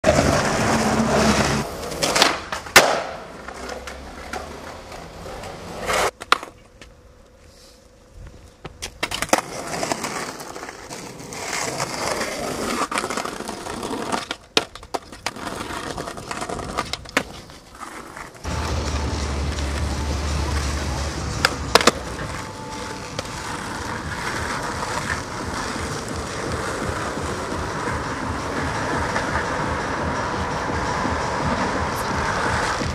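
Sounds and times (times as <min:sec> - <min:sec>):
skateboard clacking: 0:00.0 - 0:06.9, 0:08.6 - 0:32.9
skateboard wheels rolling on concrete: 0:00.0 - 0:32.9.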